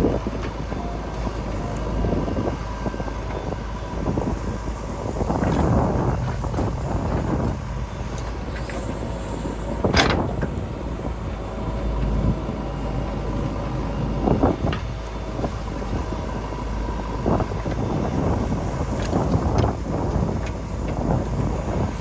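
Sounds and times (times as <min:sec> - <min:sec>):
diesel engines running: 0:00.0 - 0:22.0.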